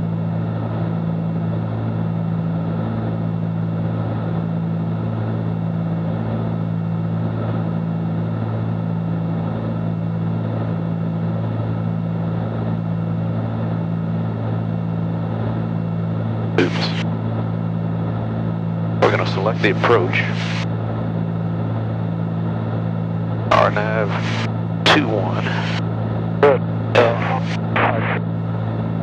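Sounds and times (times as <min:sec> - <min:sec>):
twin propeller engines droning: 0:00.1 - 0:29.0.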